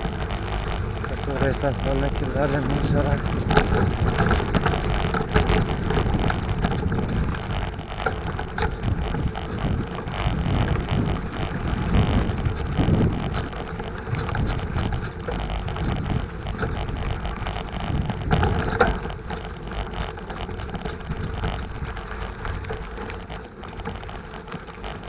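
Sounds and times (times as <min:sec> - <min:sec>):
bicycle frame rattling: 0:00.0 - 0:25.0
bicycle rolling over rough dirt: 0:00.0 - 0:25.0
wind noise on microphone: 0:00.0 - 0:25.0.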